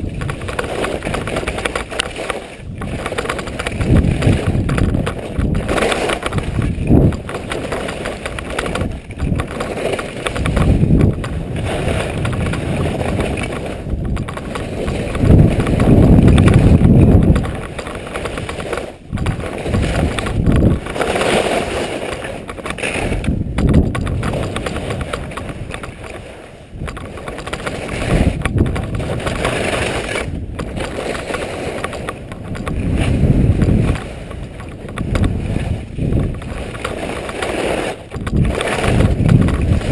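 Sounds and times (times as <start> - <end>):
low rumbling wind gusts: 0.0 - 39.9
ski edges carving snow: 0.0 - 39.9
wind rushing over microphone: 0.0 - 39.9.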